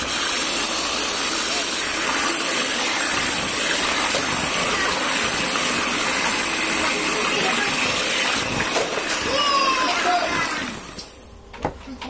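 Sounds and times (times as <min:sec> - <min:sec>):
electric hand mixer whisking batter: 0:00.0 - 0:11.0.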